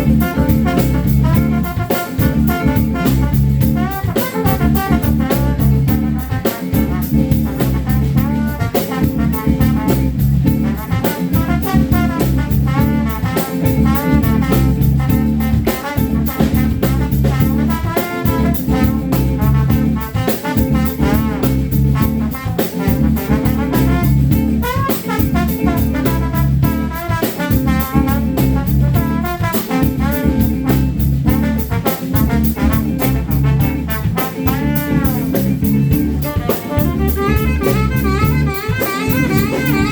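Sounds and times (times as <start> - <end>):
brass horns playing: 0.0 - 39.9
live drums: 0.0 - 39.9.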